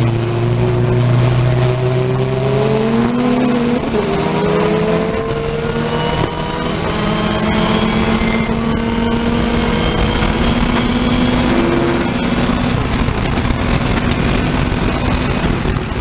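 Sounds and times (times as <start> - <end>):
car engine at full throttle: 0.0 - 16.0
wind and road rush: 0.0 - 16.0.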